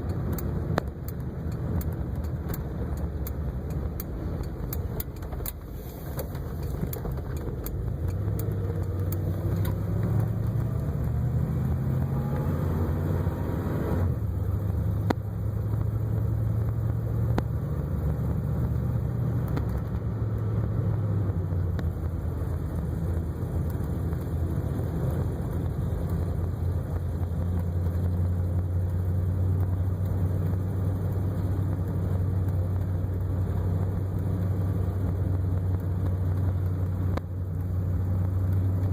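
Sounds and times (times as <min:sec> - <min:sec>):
car engine low drone: 0:00.0 - 0:38.9.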